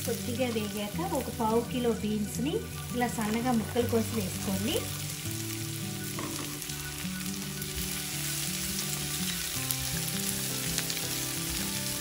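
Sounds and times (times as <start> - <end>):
beans sizzling in oil: 0.0 - 12.0.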